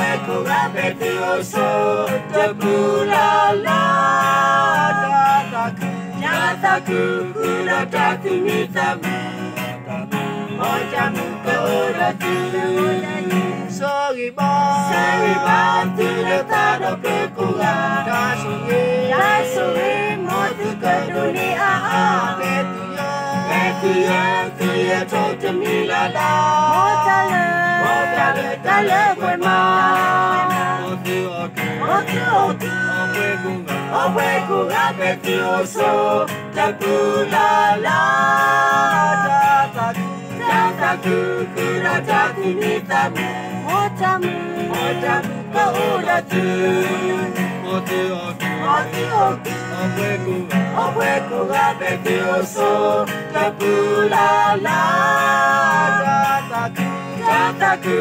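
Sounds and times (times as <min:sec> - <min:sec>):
group of people singing: 0:00.0 - 0:58.0
strummed acoustic guitar: 0:00.0 - 0:58.0.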